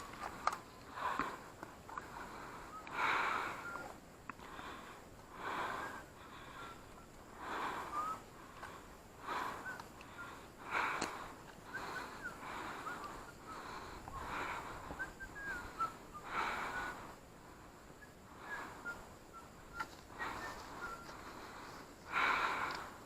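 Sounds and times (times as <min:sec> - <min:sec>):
person breathing heavily: 0:00.0 - 0:19.2, 0:20.1 - 0:23.0.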